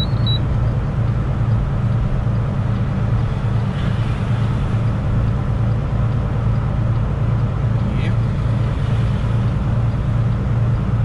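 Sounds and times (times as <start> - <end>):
road noise: 0.0 - 11.0
truck diesel engine droning: 0.0 - 11.0.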